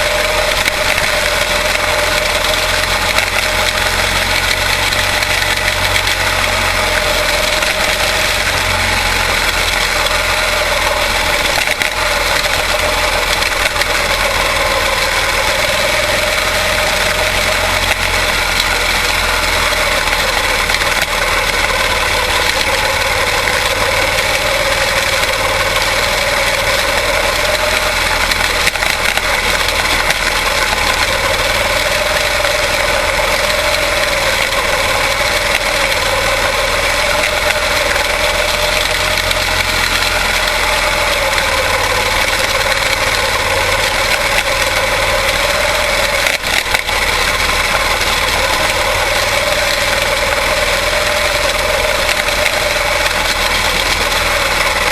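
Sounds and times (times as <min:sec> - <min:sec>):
small race car engines: 0:00.0 - 0:54.9.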